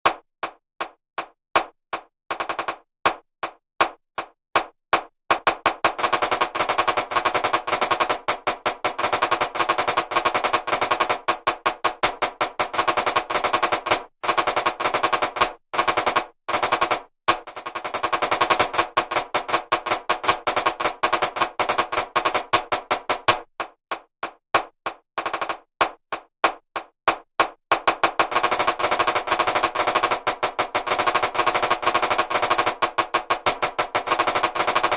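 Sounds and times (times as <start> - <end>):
snare drum rapid strokes: 0.0 - 34.9.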